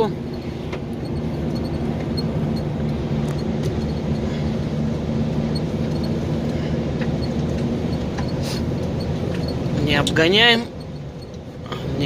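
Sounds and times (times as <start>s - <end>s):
truck engine droning: 0.0s - 12.0s
tyre and road noise: 0.0s - 12.0s.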